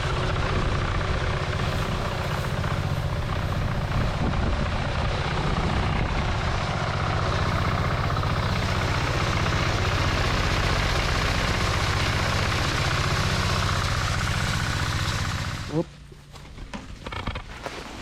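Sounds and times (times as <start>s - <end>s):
blower engine running with pulsing beat: 0.0s - 15.9s.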